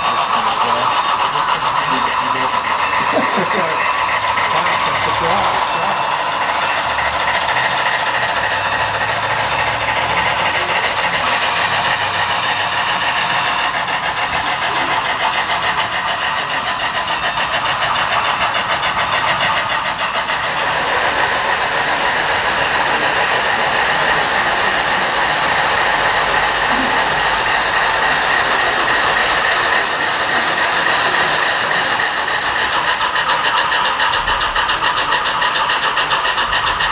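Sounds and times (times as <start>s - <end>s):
model train wheels rattling: 0.0s - 36.9s.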